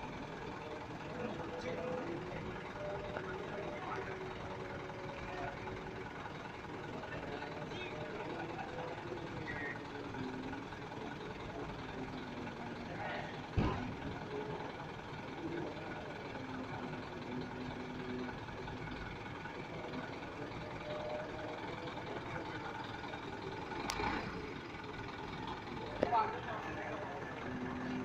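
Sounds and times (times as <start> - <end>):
faint distant voices: 0.0 - 28.0
outdoor background din: 0.0 - 28.0.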